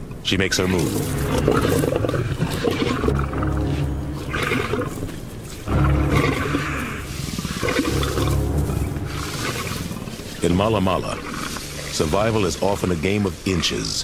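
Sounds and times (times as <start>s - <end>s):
big cat growling: 0.7s - 12.1s.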